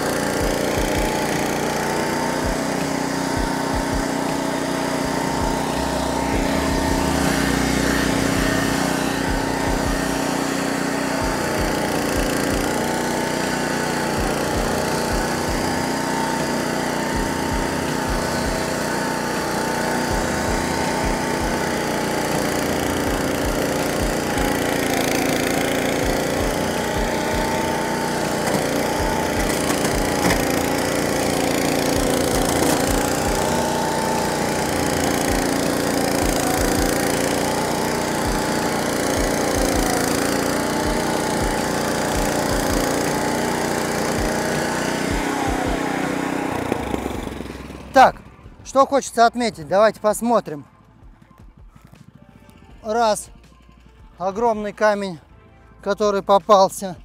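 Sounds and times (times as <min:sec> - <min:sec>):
mower engine under load: 0:00.0 - 0:51.1, 0:51.8 - 0:57.0.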